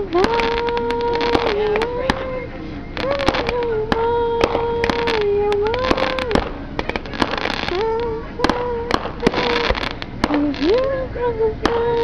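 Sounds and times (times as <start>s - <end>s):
fireworks popping and crackling: 0.0s - 12.0s.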